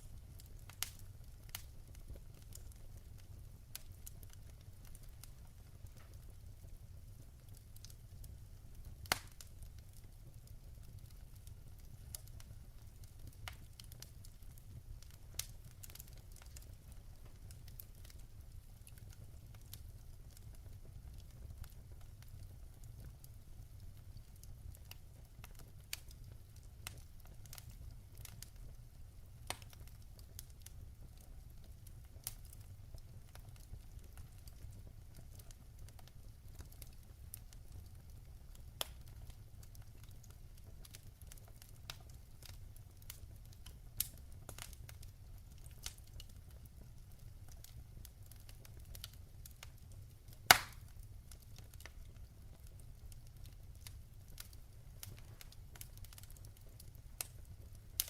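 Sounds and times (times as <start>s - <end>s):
wood fire crackling: 0.0s - 58.0s
sharp pops from burning logs: 0.2s - 6.4s, 8.8s - 23.2s, 24.0s - 28.8s, 29.4s - 58.0s.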